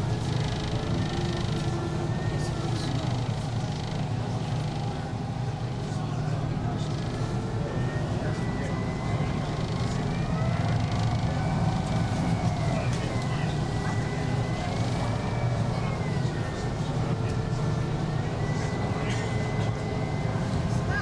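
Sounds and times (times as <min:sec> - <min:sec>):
boat engine drone: 0:00.0 - 0:21.0.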